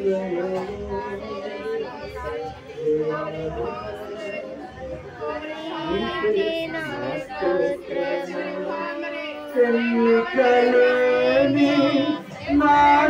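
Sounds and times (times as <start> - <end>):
women singing in unison: 0.0 - 13.0.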